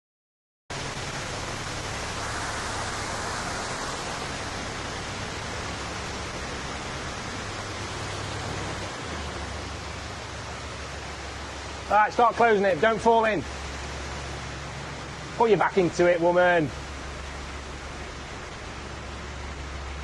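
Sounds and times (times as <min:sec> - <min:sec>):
low steady hum: 0:00.7 - 0:20.0
water rushing through canal lock: 0:00.7 - 0:20.0.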